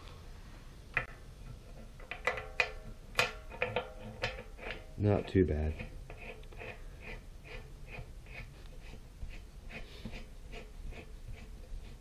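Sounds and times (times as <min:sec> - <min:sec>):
nut scraping onto threads: 0:01.0 - 0:12.0.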